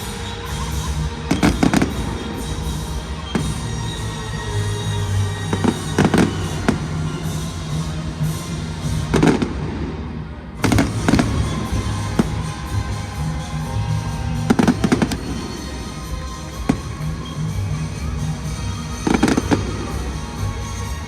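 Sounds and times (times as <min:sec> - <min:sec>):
fireworks shells bursting: 0:00.0 - 0:09.6, 0:10.6 - 0:21.0
music playing: 0:00.0 - 0:21.0.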